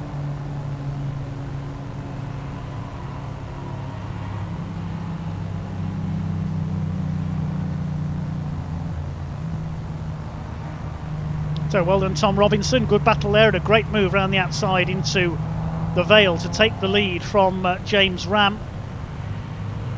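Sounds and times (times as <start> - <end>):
racing car engines driving past: 0.0 - 19.9.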